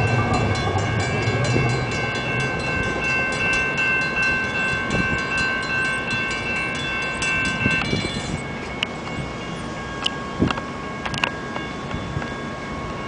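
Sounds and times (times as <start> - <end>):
crossing warning bell ringing: 0.0 - 13.0
train rumble: 0.0 - 13.0.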